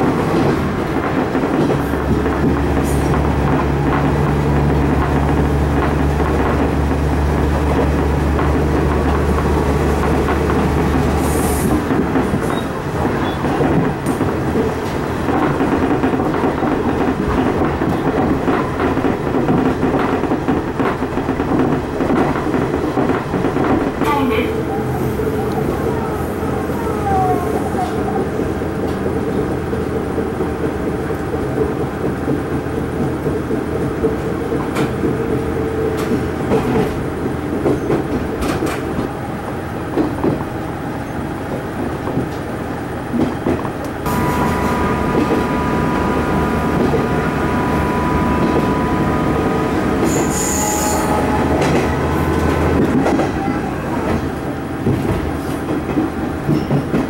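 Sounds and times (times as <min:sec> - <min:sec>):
wheels clicking over rail joints: 0:00.0 - 0:24.4, 0:27.1 - 0:57.0
train running noise: 0:00.0 - 0:57.0.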